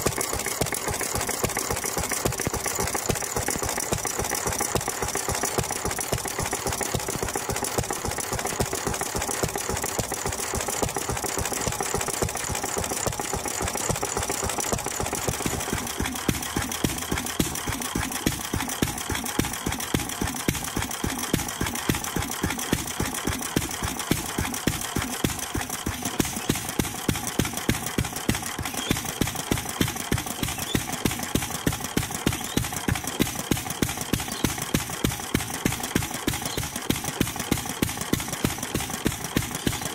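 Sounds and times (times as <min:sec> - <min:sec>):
stationary engine firing beats: 0:00.0 - 0:39.9.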